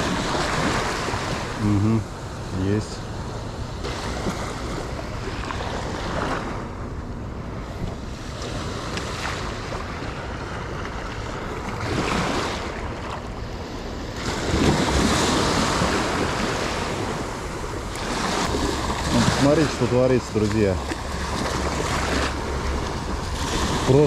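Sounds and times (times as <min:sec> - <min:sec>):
sea surf washing on shore: 0:00.0 - 0:24.0.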